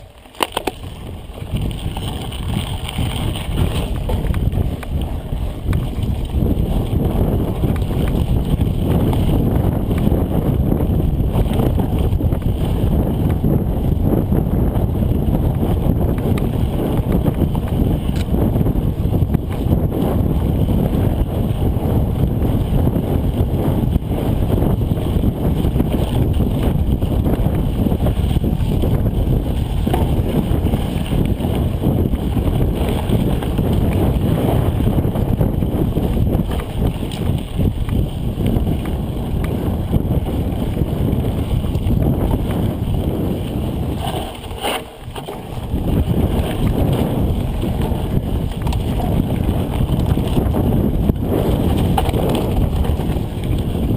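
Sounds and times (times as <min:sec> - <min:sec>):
bike rattling on rough trail: 0:00.0 - 0:53.9
wind buffeting microphone: 0:00.0 - 0:53.9.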